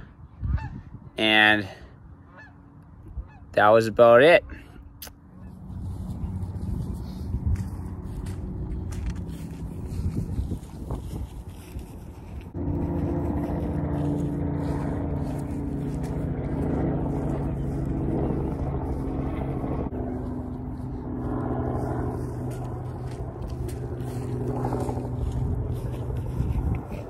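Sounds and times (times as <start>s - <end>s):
engine droning hum: 1.5s - 27.0s.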